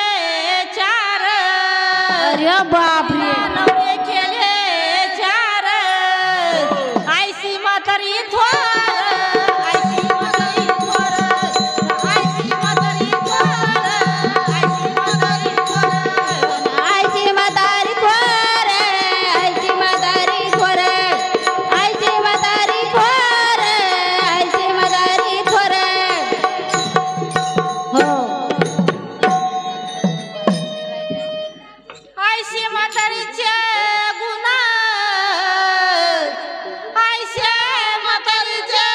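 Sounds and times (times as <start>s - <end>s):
tabla playing a steady rhythm: 0.0s - 38.9s.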